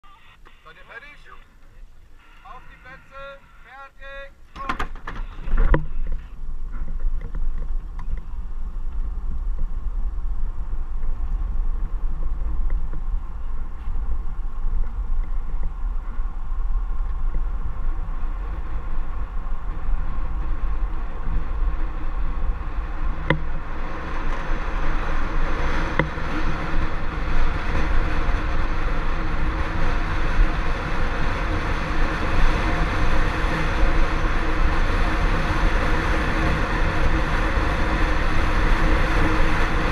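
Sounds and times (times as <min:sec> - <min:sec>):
wheels rolling on asphalt: 0:04.9 - 0:39.9
wind on microphone: 0:05.2 - 0:39.9.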